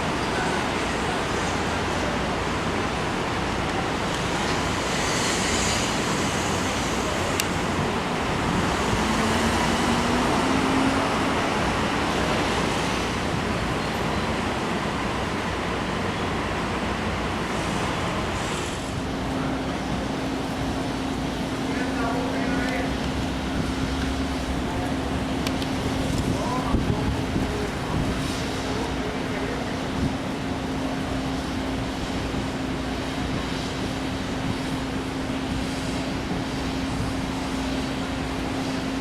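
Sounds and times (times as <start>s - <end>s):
road traffic hiss and rumble: 0.0s - 39.0s.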